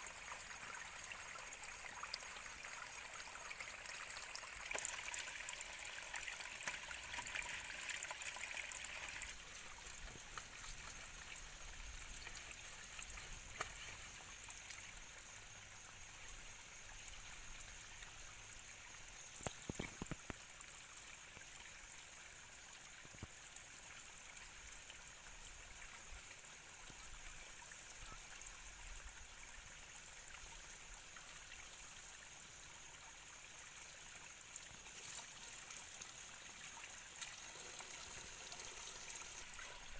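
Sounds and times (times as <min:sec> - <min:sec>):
water trickling into a stream: 0:00.0 - 0:39.9.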